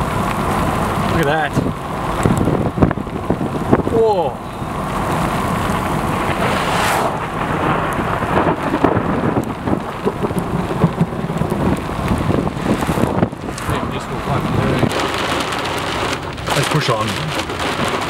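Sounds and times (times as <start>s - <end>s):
rain falling hard: 0.0s - 18.0s
thunder rumbling: 0.0s - 18.0s.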